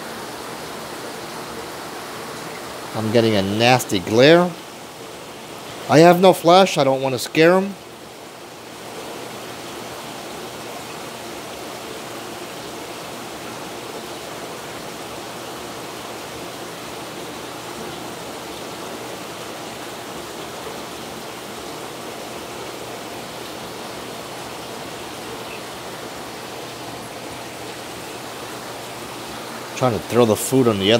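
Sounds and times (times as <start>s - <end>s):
aquarium water rushing: 0.0s - 30.9s.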